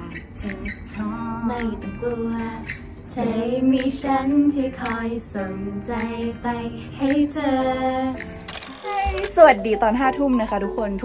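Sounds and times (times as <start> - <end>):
young women singing together: 0.0 - 9.5.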